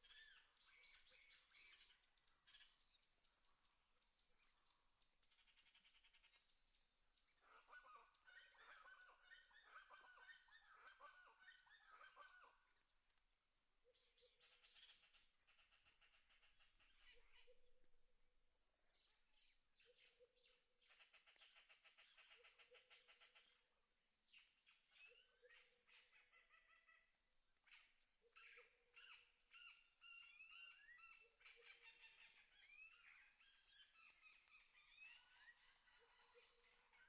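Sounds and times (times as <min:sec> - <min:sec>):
birds chirping and trilling: 0:00.0 - 0:03.7, 0:07.2 - 0:12.9, 0:13.9 - 0:18.2, 0:18.9 - 0:37.0.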